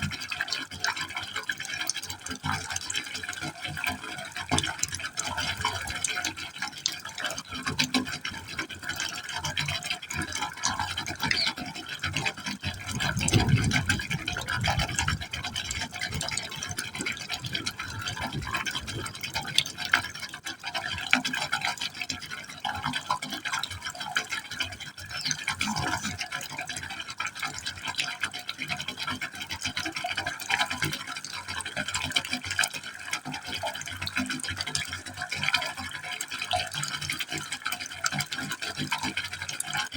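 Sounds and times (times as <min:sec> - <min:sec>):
water splashing and gurgling: 0:00.0 - 0:39.9.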